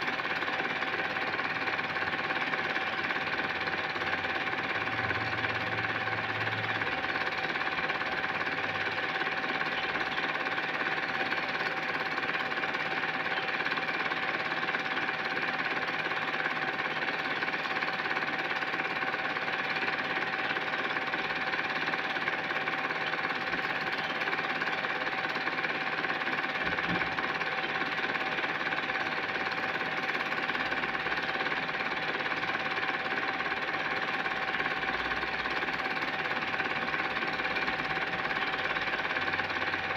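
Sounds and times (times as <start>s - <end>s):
film projector whirring clatter: 0.0s - 39.9s.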